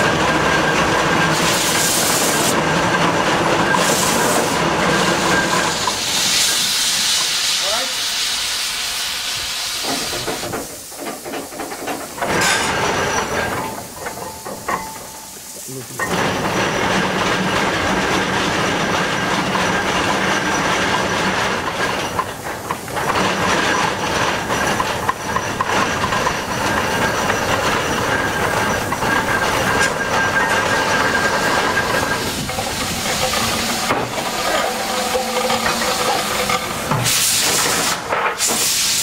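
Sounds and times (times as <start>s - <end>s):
hissing steam: 0.0s - 2.6s, 3.6s - 39.0s
steam engine mechanical clatter: 0.0s - 8.4s, 9.4s - 39.0s.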